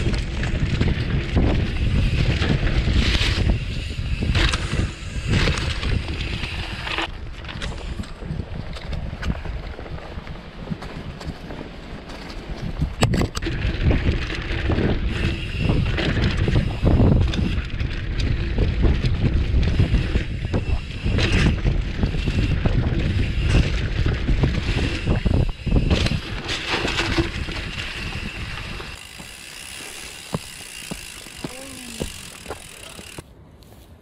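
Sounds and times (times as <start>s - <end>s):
wind buffeting microphone: 0.0s - 33.2s
bike rattling over bumps: 0.0s - 33.3s
tyres rolling on dry ground: 5.6s - 33.3s.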